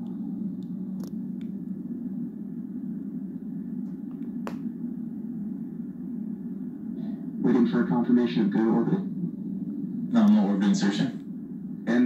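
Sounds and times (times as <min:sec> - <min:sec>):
television speaker hum: 0:00.0 - 0:12.0.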